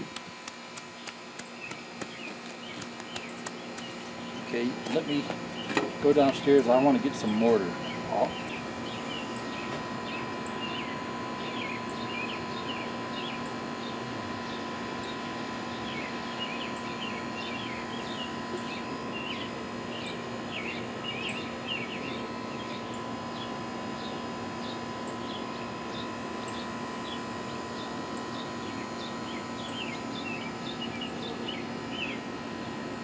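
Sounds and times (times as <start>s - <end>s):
steady background hum: 0.0s - 33.0s
small birds chirping: 0.7s - 32.8s.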